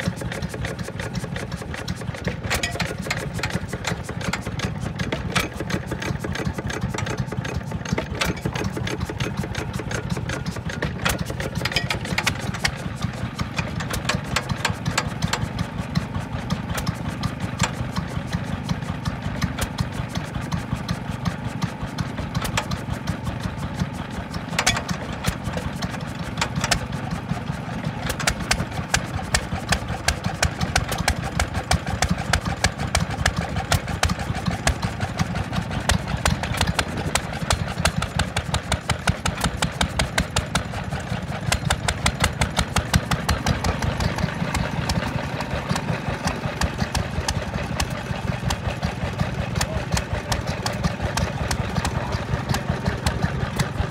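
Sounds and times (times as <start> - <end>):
stationary engine knocking: 0.0 - 53.9.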